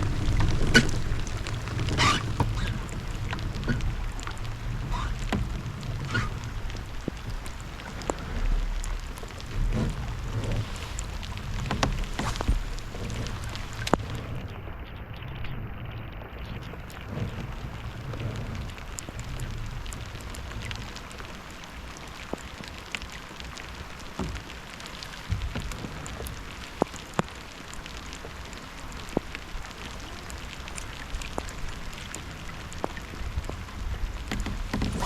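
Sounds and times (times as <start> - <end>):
sharp taps of raindrops: 0.0 - 14.3, 16.8 - 35.0
steady rain pattering: 0.0 - 35.0.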